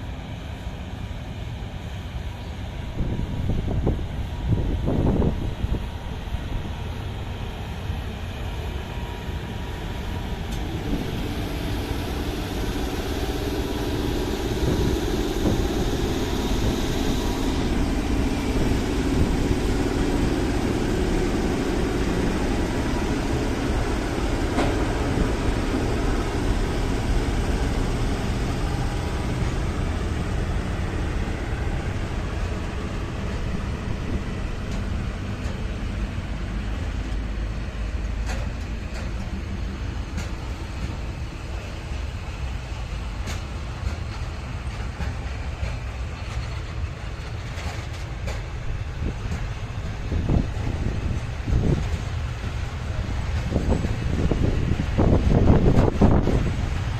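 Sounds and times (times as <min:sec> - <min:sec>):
train wheels rumbling: 0:00.0 - 0:56.9.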